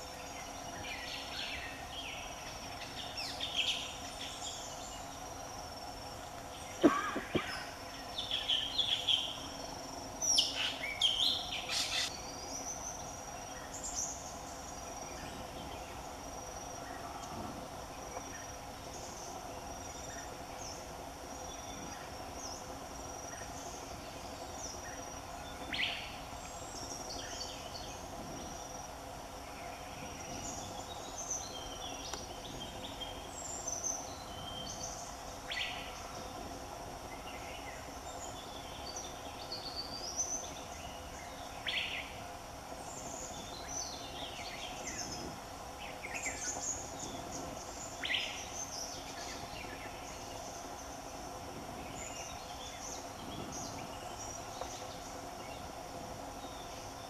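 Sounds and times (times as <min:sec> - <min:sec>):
birds chirping and twittering: 0:00.0 - 0:57.0
insect chorus trilling: 0:00.0 - 0:57.0.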